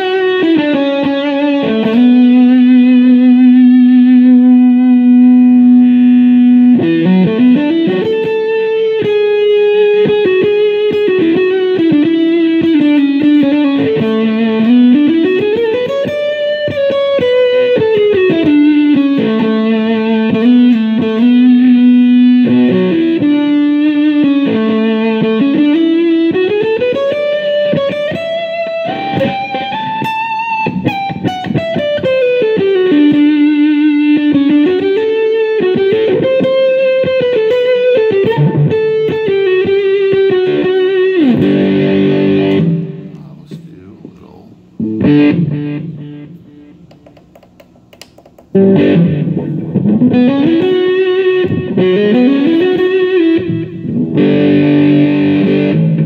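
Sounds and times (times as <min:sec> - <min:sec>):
overdriven electric guitar lead: 0:00.0 - 0:56.0.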